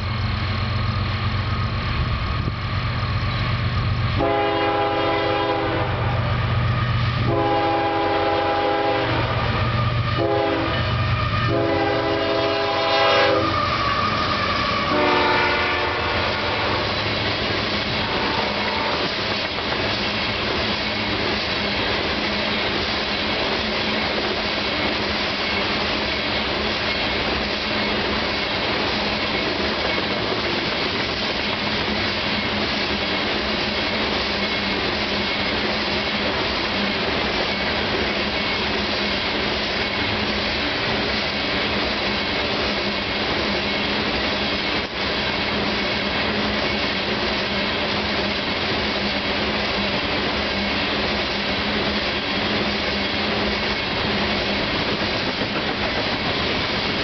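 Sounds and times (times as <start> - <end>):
steel wheels on rail: 0.0 - 57.0.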